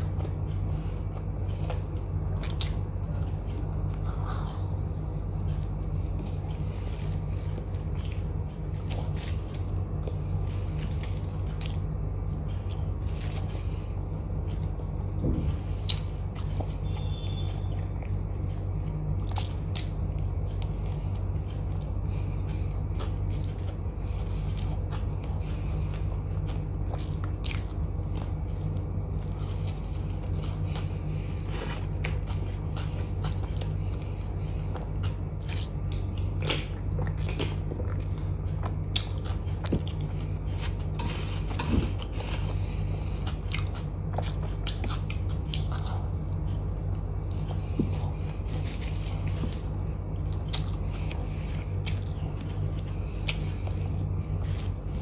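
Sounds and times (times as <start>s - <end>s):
low hum: 0.0s - 55.0s
person biting and chewing bread: 0.0s - 55.0s.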